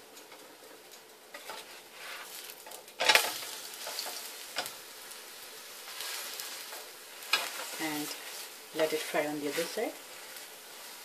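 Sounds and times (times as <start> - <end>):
omelette sizzling in oil: 0.0 - 11.0.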